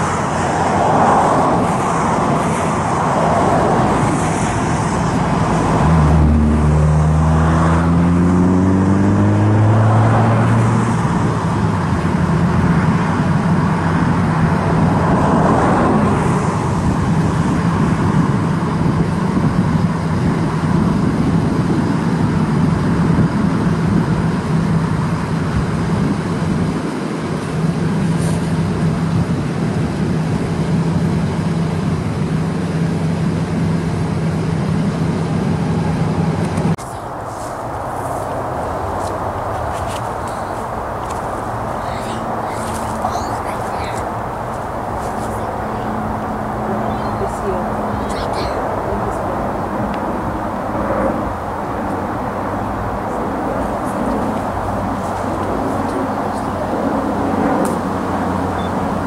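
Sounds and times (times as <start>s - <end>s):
road noise: 0.0s - 59.0s
vehicle engine accelerating: 0.0s - 59.0s.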